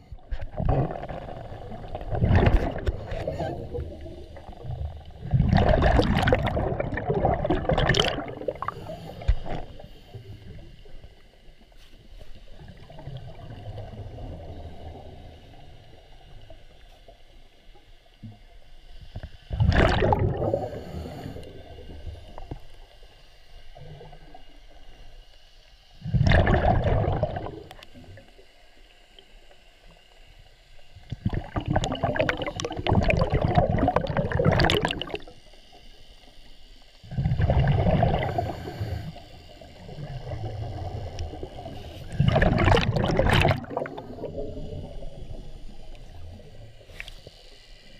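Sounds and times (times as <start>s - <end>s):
faint low water noise: 0.0s - 47.9s
underwater bubbles gurgling: 0.0s - 47.9s.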